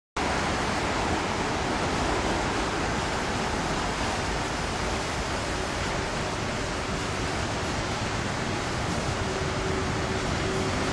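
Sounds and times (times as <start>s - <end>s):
freight train rumbling: 0.2s - 10.9s.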